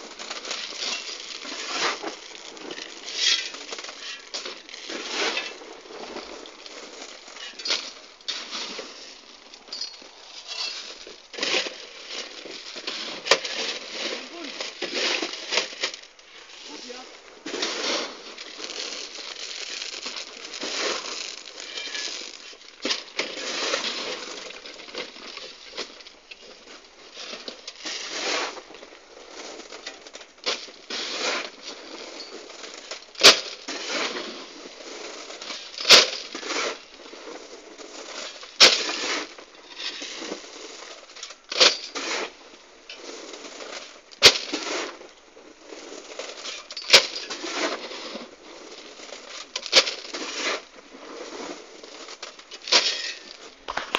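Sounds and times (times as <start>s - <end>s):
stone chips being shovelled: 0.0s - 53.9s.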